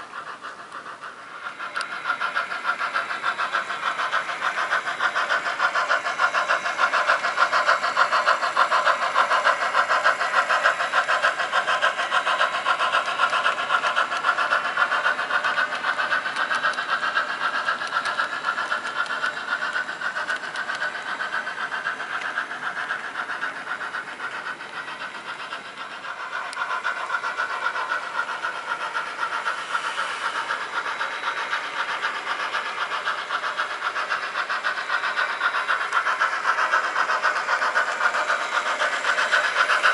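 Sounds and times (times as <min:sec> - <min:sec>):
model train running: 0:00.0 - 0:39.9.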